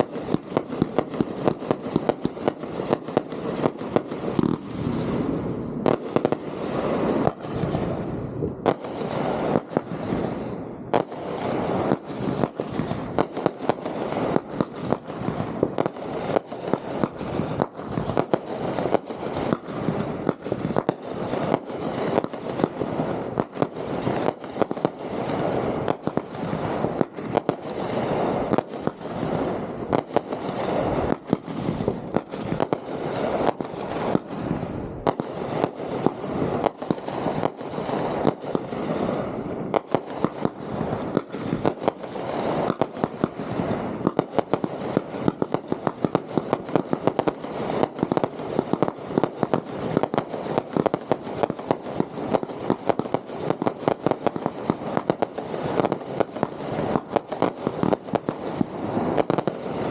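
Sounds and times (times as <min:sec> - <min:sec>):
fireworks bangs: 0:00.0 - 0:59.9
fireworks crackling: 0:00.0 - 0:59.9.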